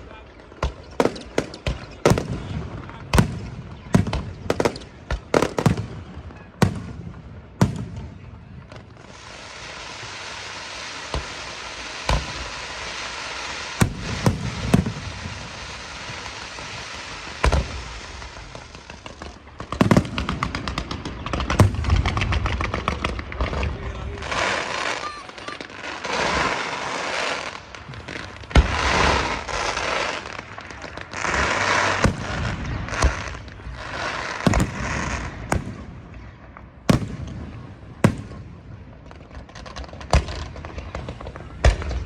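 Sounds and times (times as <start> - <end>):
fireworks bangs: 0.0 - 42.0
fireworks crackling hiss: 0.0 - 42.0.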